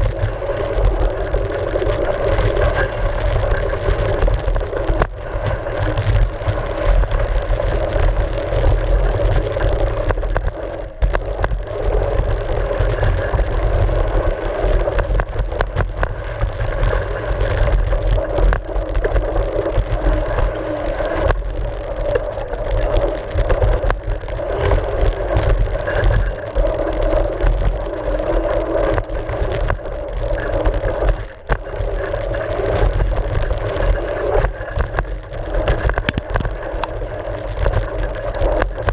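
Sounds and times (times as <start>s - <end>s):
wind buffeting rumble: 0.0s - 38.9s.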